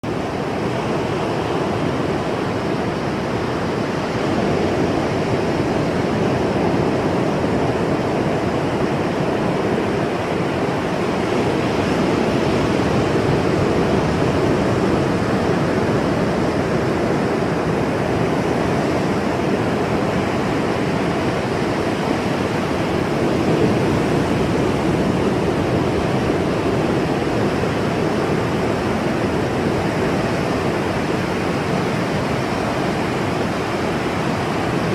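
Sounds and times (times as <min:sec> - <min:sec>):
ocean waves washing on shore: 0:00.0 - 0:34.9.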